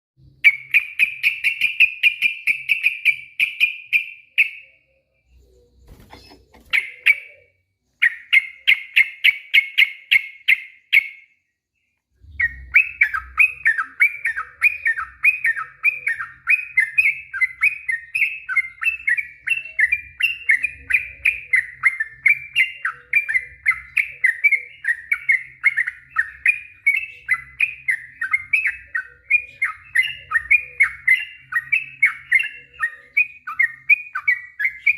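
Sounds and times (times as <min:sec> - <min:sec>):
bird chattering song: 0:00.2 - 0:34.9.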